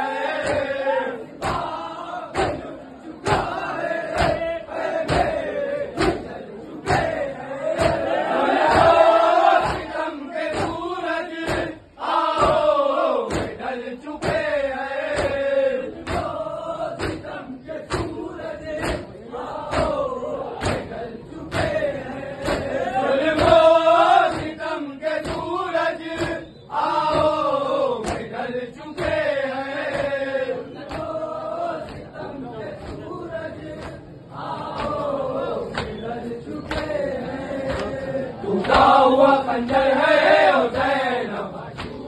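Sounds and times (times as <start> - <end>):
men chanting a lament: 0.0 - 42.0
palms slapping on chests: 0.2 - 32.2, 32.8 - 41.0, 41.7 - 42.0.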